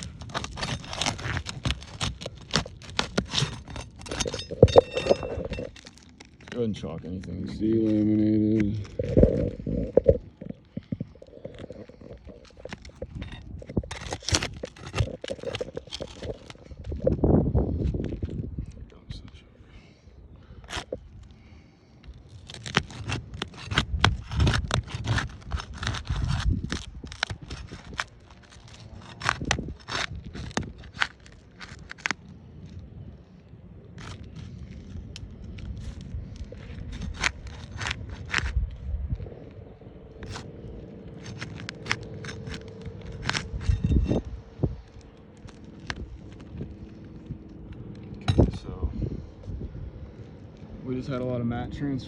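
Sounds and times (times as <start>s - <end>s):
shingle tearing rip: 0.0s - 18.4s, 22.1s - 33.2s, 33.8s - 39.2s, 40.1s - 48.7s
rustling handling noise: 0.0s - 19.4s, 20.4s - 51.3s
roof shingles crackling and scraping: 0.0s - 52.0s.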